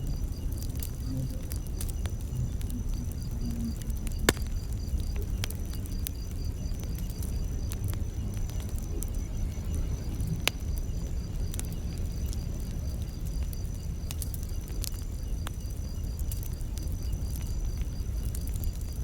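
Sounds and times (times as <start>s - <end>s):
campfire crackling and popping: 0.0s - 19.0s
insects chirping: 0.0s - 19.0s.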